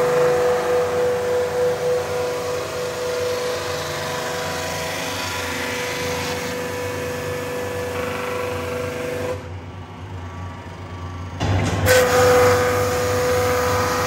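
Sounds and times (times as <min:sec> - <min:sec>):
brush sanding machine running: 0:00.0 - 0:09.4, 0:12.1 - 0:14.0.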